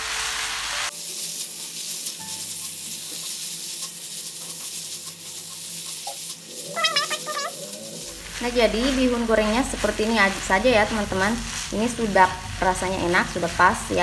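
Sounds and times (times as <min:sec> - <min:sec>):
noodles sizzling in a wok: 0:00.0 - 0:14.0
spatula stirring in a wok: 0:00.9 - 0:14.0.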